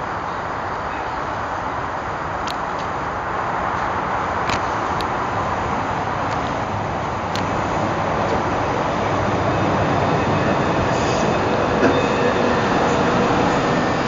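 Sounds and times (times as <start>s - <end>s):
train wheels rumbling on rail: 1.5s - 14.0s.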